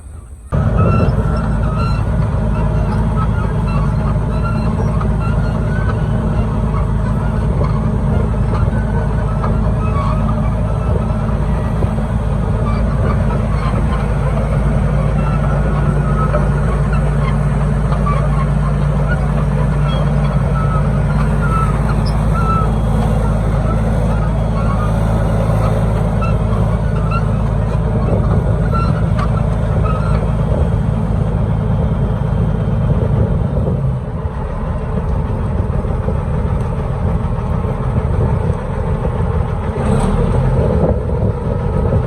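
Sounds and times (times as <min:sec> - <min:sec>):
large engine droning: 0:00.0 - 0:42.0.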